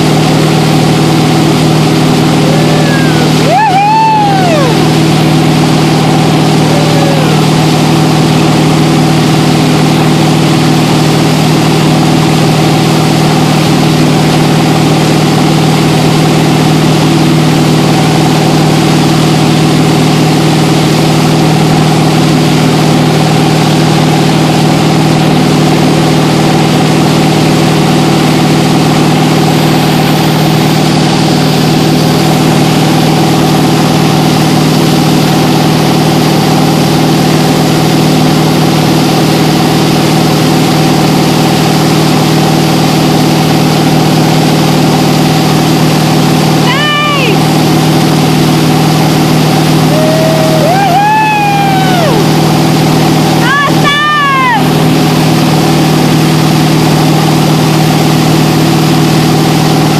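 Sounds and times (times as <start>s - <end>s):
boat engine running steadily: 0.0s - 59.9s
churning wake water: 0.0s - 59.9s.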